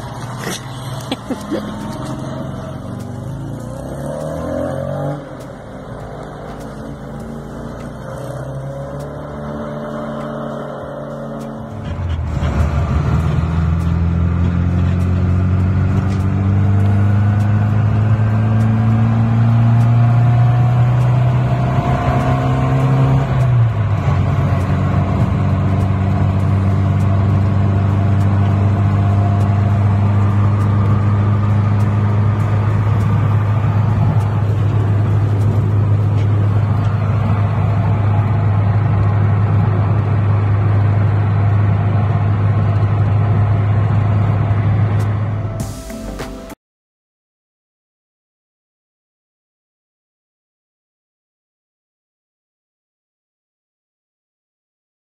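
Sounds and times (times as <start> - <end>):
car engine driving off: 0.0 - 46.6.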